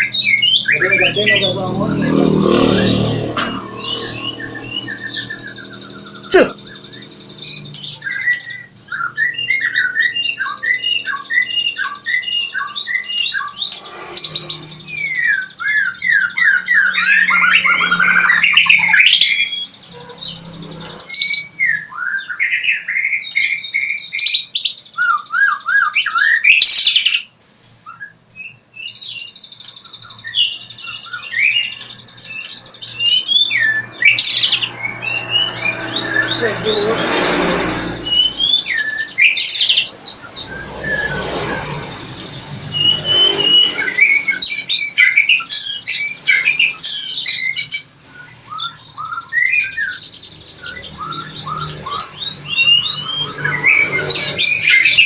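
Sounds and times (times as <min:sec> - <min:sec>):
magpie chicks chirping and squawking: 0:00.0 - 0:55.0.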